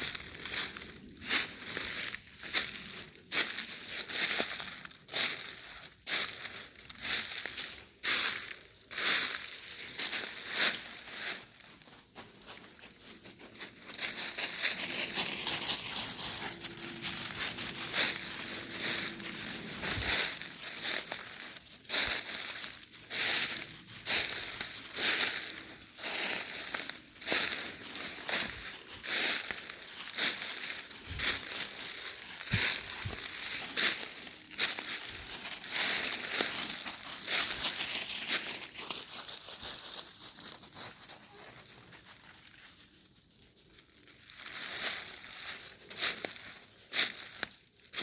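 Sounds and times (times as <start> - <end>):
footsteps crunching dry leaves: 0.0 - 48.0.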